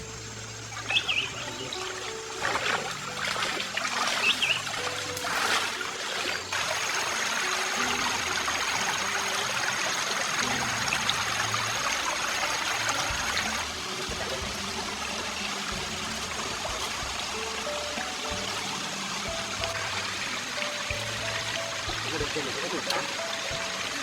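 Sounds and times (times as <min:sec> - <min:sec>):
stream water trickling: 0:00.0 - 0:24.0.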